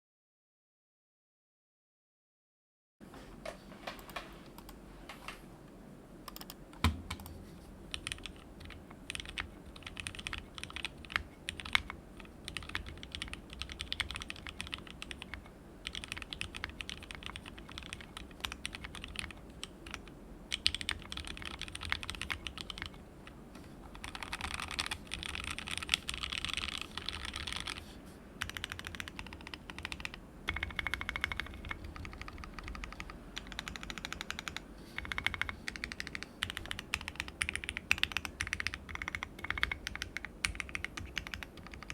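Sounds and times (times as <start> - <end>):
mechanical keyboard typing: 6.3 - 23.0, 23.9 - 27.8, 28.4 - 41.9.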